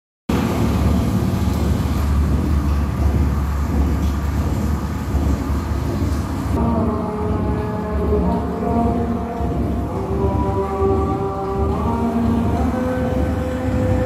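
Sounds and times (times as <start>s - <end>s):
low rumbling electronic drone: 0.3s - 14.0s.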